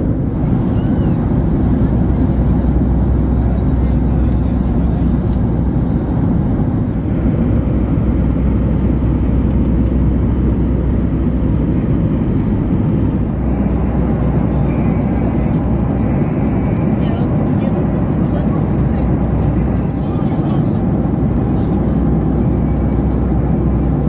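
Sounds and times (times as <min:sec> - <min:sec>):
airliner cabin noise: 0:00.0 - 0:24.0.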